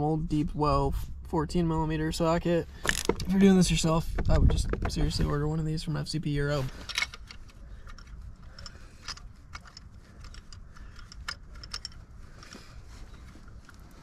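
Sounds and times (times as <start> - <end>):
faint low rumble: 0.0 - 14.0.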